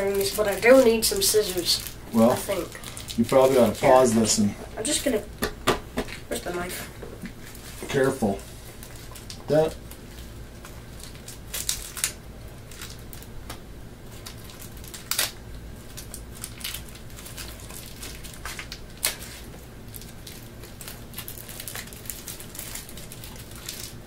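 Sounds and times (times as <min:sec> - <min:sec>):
plastic bag crinkling: 0:00.0 - 0:05.2, 0:07.5 - 0:13.4, 0:14.0 - 0:24.0.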